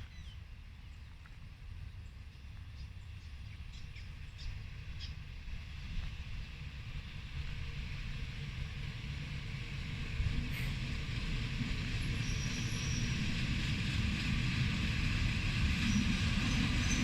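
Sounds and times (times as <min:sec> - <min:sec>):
train rumbling: 0:00.8 - 0:17.0.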